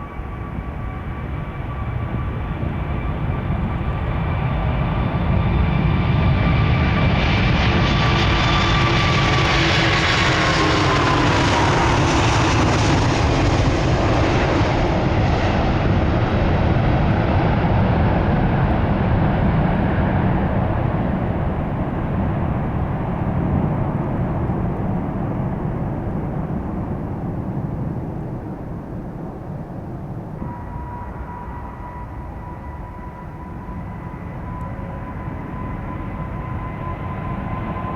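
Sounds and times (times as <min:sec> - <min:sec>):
jet airliner engine roar: 0:00.0 - 0:37.9
jet engine whine: 0:00.0 - 0:37.9.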